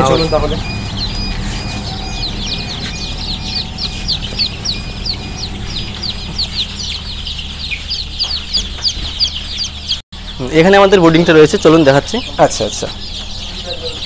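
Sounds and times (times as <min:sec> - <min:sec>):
chicks peeping: 0:00.0 - 0:14.0
low steady hum: 0:00.0 - 0:14.0.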